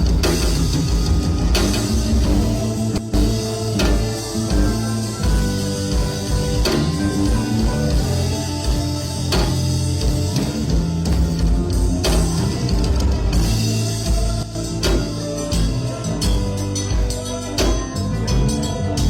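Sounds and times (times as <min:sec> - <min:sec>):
steady drum beat: 0:00.0 - 0:19.0
sustained guitar notes: 0:00.0 - 0:19.0.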